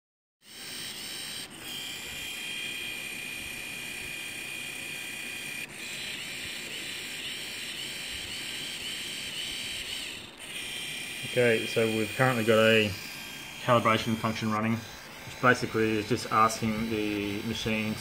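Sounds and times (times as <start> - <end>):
valve gear motor whining: 0.4 - 18.0.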